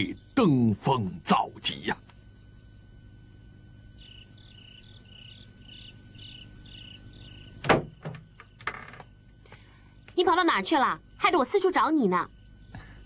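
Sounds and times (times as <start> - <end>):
low hum: 0.0 - 11.2
insect chirping: 0.0 - 13.0.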